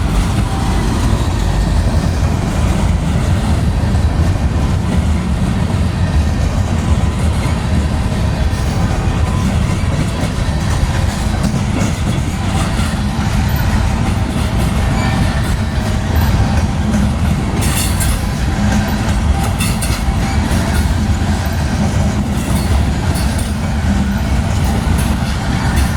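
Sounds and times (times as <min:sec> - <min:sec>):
freight train rolling past: 0:00.0 - 0:25.9
sharp clicks from train wheels: 0:00.0 - 0:25.9.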